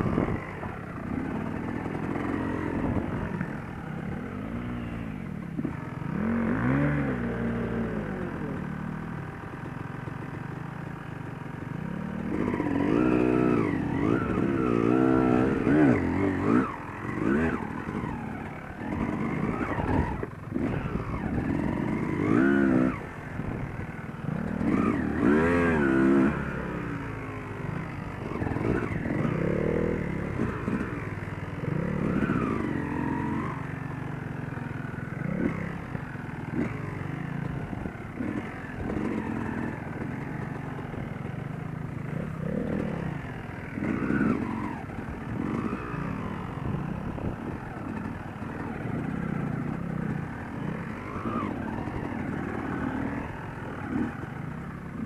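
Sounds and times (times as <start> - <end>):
dirt bike engine revving: 0.0 - 8.9, 11.8 - 34.0, 35.0 - 55.0.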